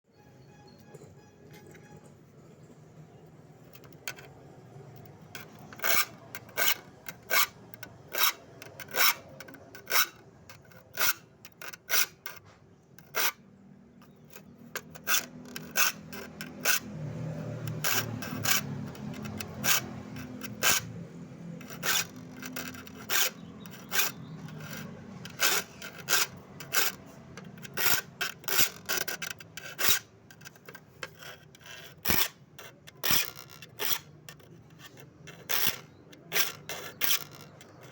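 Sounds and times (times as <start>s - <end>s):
file rasping on saw teeth: 5.0s - 13.4s, 14.0s - 37.9s.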